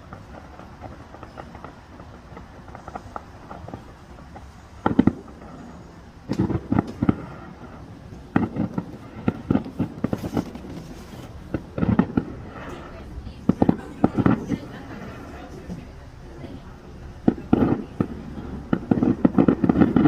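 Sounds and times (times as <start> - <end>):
loud firework booms: 0.0 - 15.3, 16.5 - 20.0
small crackling firework pops: 0.0 - 16.6, 17.2 - 20.0.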